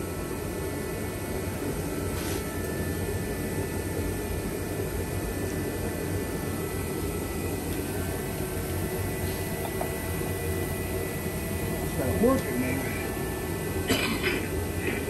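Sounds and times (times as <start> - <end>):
faint high whine: 0.0 - 15.0
low droning fan noise: 0.0 - 15.0.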